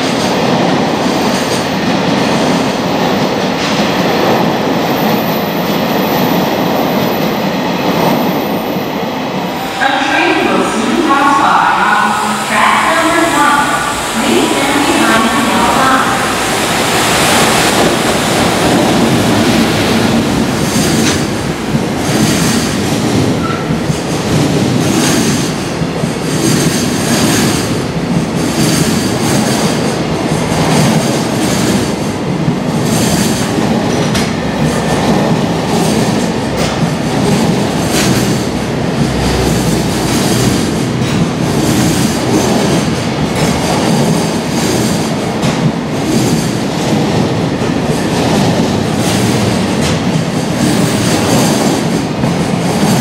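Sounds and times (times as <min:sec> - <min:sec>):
freight train rumbling: 0:00.0 - 0:53.0.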